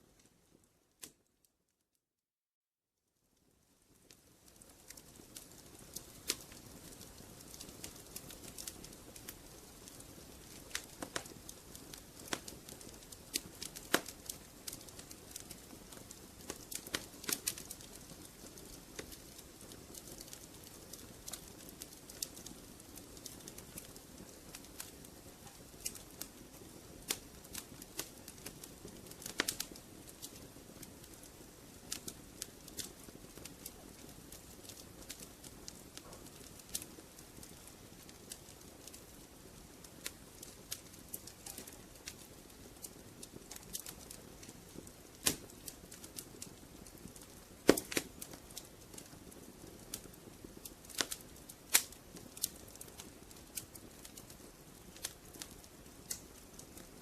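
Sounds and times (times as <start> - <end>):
wood fire crackling: 0.0 - 1.4, 3.4 - 57.0.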